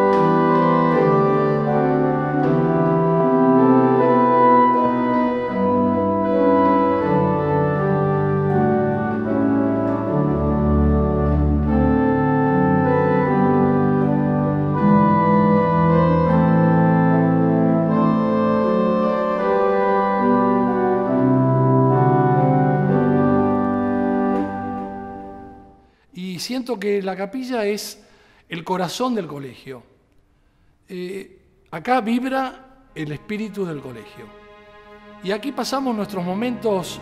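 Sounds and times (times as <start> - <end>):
pipe organ chords: 0.0 - 26.1, 32.6 - 37.0.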